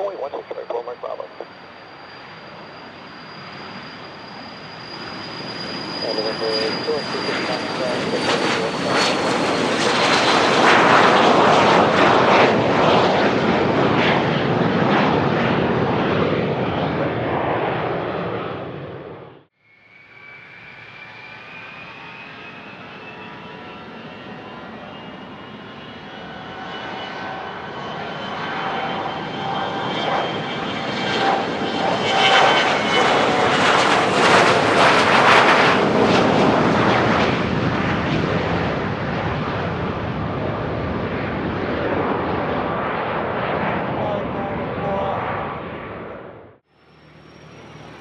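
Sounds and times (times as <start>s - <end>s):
jet engines whining and roaring: 0.0s - 48.0s.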